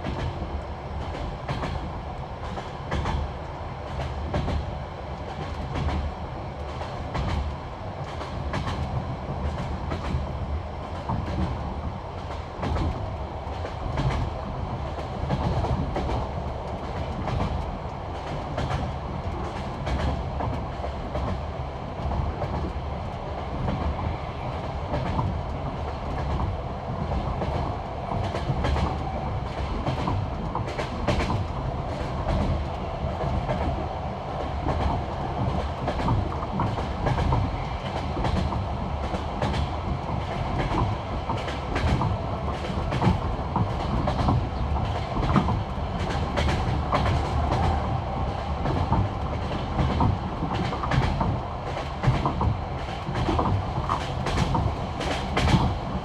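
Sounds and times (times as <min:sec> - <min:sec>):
train wheels clickety-clack on rails: 0:00.0 - 0:56.0.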